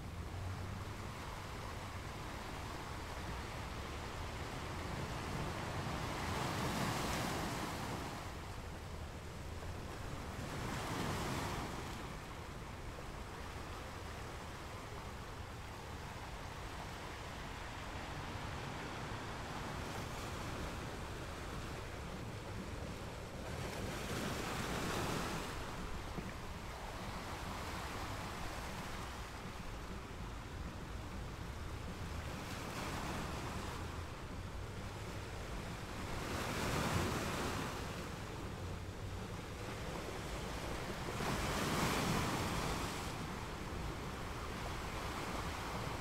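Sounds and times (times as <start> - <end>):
sea waves washing and slapping: 0.0 - 46.0
wind rumble on microphone: 0.0 - 46.0.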